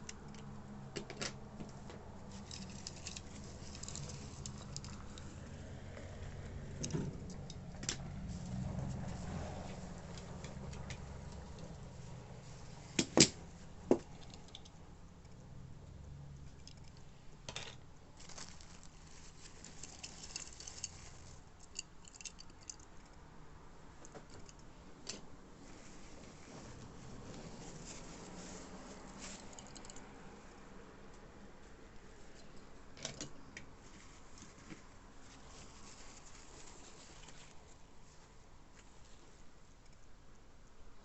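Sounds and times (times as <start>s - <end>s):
rustling and tapping of toys: 0.0s - 15.4s, 16.0s - 23.2s, 24.0s - 30.0s, 31.1s - 40.0s.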